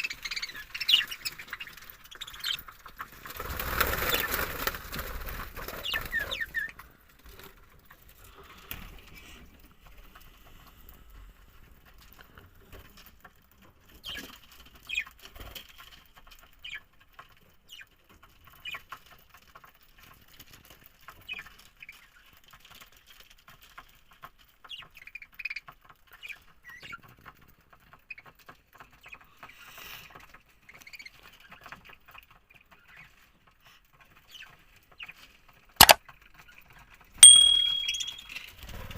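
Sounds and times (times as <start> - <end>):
faint clicking and scratching: 0.0 - 37.2.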